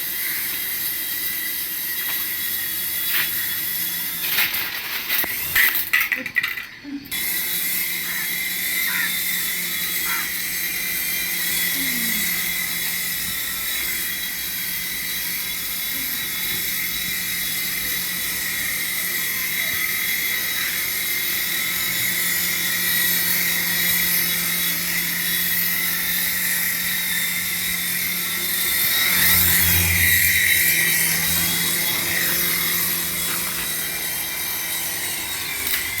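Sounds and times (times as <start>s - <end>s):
toy helicopter motors whining: 0.0s - 36.0s.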